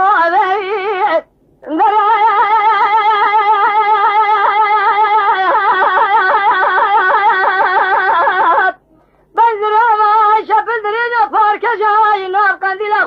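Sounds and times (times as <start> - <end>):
person singing unaccompanied: 0.0 - 13.0.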